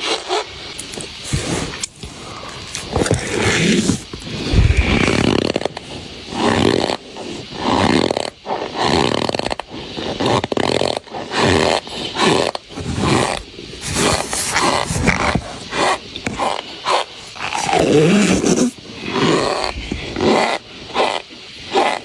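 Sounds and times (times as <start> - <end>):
cornstarch squeaking and crunching: 0.0 - 22.0.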